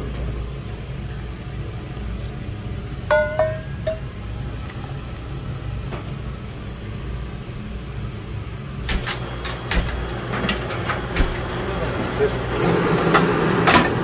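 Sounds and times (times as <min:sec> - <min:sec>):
gas burners rumbling: 0:00.0 - 0:14.0.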